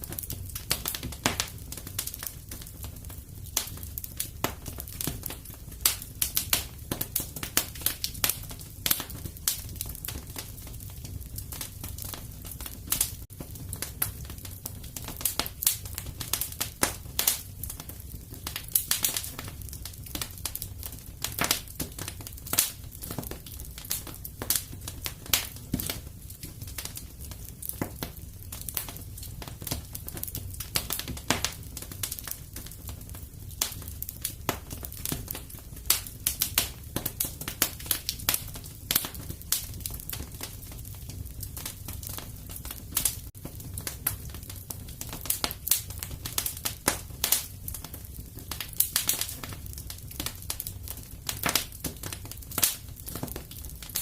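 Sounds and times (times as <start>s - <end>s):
low rumble of burning fire: 0.0s - 54.0s
wood fire crackling and popping: 0.0s - 54.0s.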